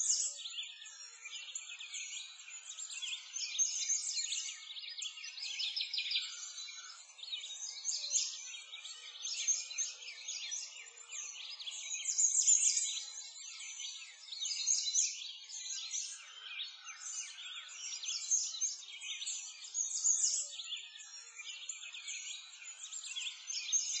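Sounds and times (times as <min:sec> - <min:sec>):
birds chirping and singing: 0:00.0 - 0:24.0.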